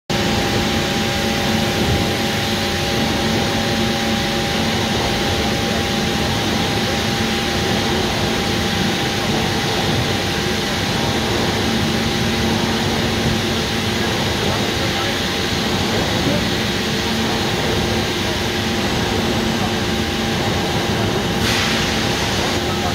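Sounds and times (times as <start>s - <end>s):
rolling mill machinery hum: 0.1s - 22.9s.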